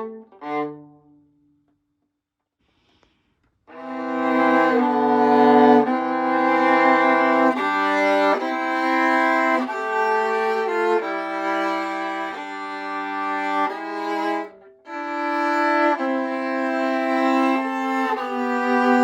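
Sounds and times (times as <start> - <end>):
viola bowed in sustained notes: 0.0 - 1.2, 3.7 - 19.0.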